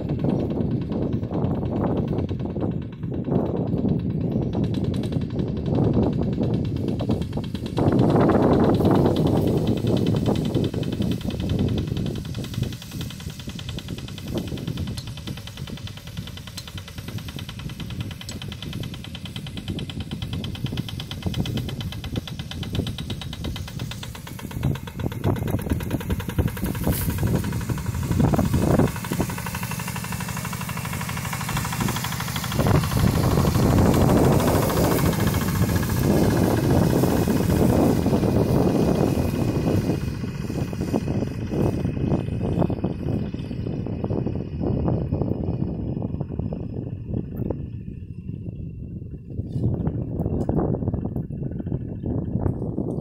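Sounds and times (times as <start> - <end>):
diesel tractor engine knocking: 0.0 - 53.0.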